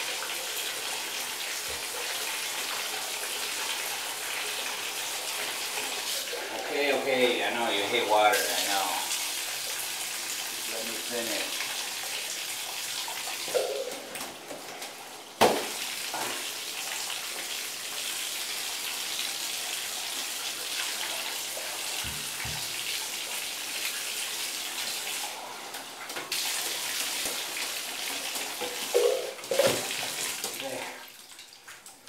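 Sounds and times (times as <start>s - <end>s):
water running from tap: 0.0s - 32.0s.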